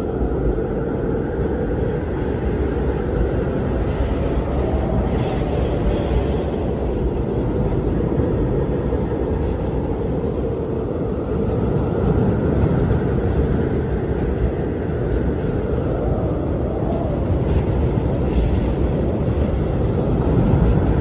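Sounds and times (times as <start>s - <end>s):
howling wind: 0.0s - 21.0s.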